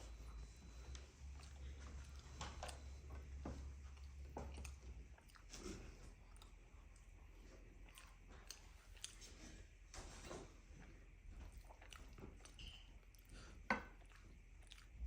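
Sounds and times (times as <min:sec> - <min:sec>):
low steady hum: 0:00.0 - 0:15.0
person chewing food: 0:00.0 - 0:15.0.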